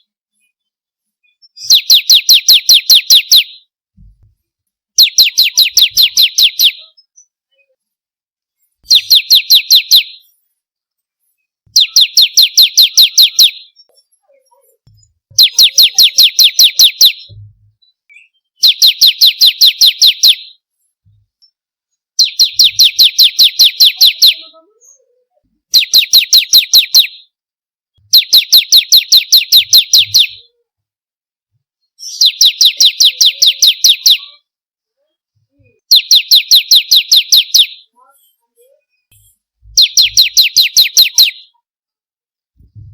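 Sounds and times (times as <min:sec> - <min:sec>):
bird song of sharp rapid notes: 0:00.0 - 0:04.3, 0:04.9 - 0:07.8, 0:08.6 - 0:10.5, 0:11.2 - 0:21.6, 0:22.2 - 0:25.0, 0:25.7 - 0:27.4, 0:28.0 - 0:30.5, 0:31.9 - 0:34.4, 0:35.5 - 0:41.6.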